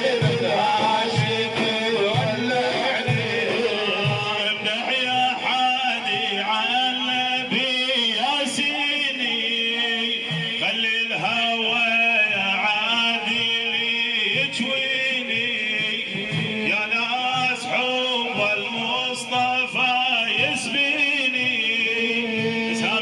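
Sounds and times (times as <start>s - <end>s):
man singing: 0.0s - 23.0s.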